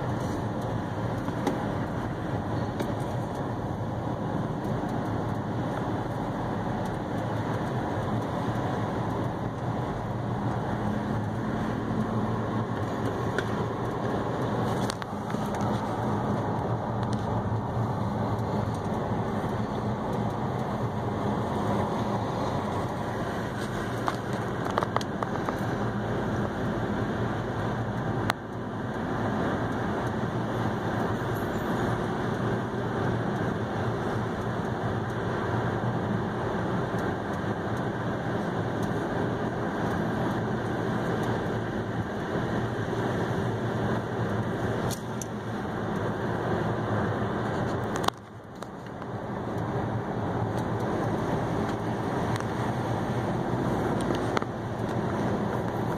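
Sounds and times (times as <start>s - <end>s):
car road noise from cabin: 0.0s - 55.9s.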